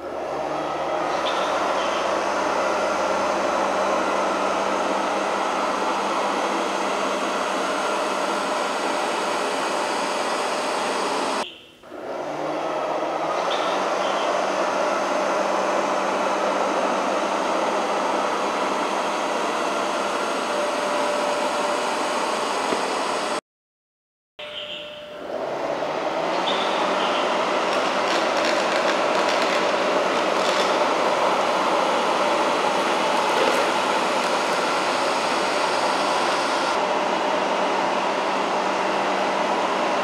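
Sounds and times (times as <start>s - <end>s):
robot vacuum cleaner whirring: 0.0s - 23.4s, 25.2s - 40.0s.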